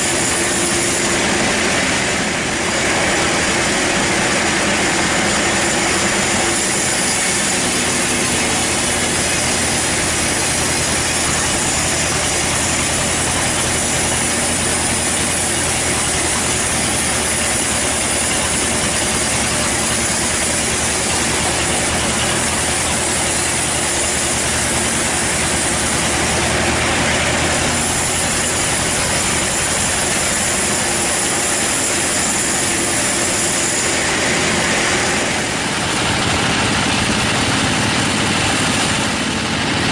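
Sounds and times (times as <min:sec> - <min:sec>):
saw blade cutting wood: 0:00.0 - 0:39.3
sawmill machine drone: 0:00.0 - 0:39.9.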